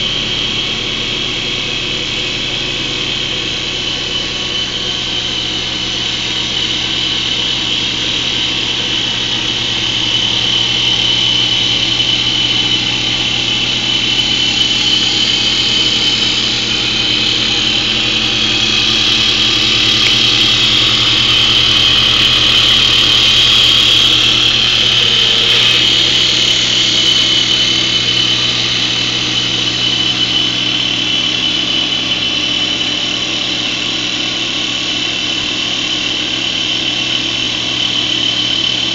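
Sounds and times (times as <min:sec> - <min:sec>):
lathe machine whine: 0:00.0 - 0:38.9
wood cutting noise: 0:00.0 - 0:38.9.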